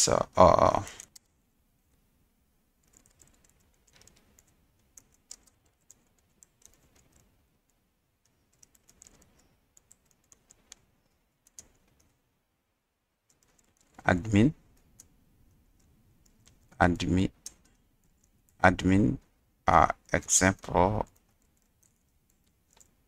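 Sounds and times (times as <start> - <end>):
faint keyboard typing: 0.4 - 2.0, 2.8 - 23.0.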